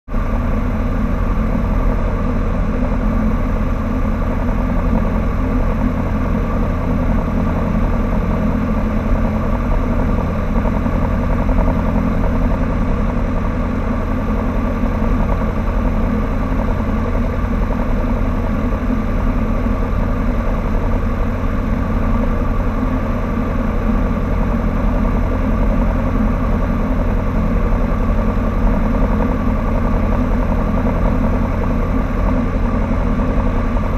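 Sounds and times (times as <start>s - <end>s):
small plane engine and propeller: 0.1s - 33.9s.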